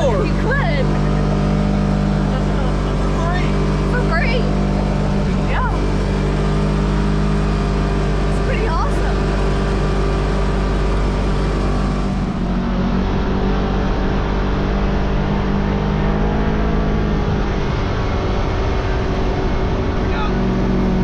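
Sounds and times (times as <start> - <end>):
utility vehicle engine running: 0.0 - 21.0.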